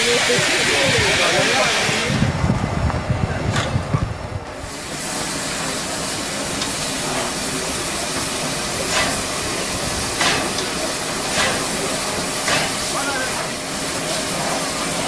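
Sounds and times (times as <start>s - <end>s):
steam hissing from locomotive: 0.0s - 2.4s, 4.5s - 15.0s
loud steam puffs: 0.0s - 2.5s, 4.5s - 15.0s.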